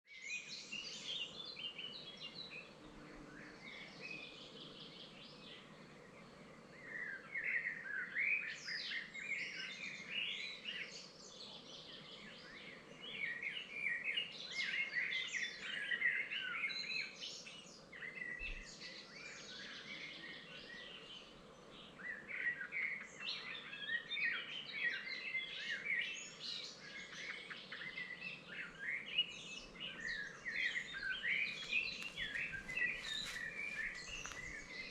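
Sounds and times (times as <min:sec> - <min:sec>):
faint steady hiss: 0:00.1 - 0:34.9
songbirds chirping and trilling: 0:00.1 - 0:34.9.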